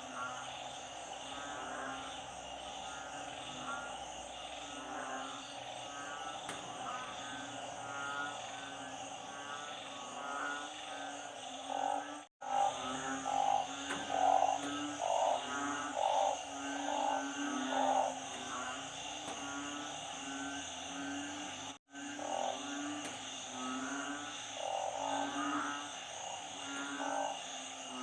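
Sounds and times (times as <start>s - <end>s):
frogs calling: 0.0s - 28.0s.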